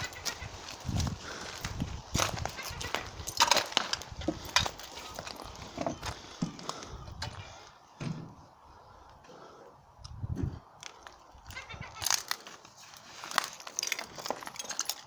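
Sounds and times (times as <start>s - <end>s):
footsteps crunching over debris: 0.0s - 7.8s, 10.5s - 15.0s.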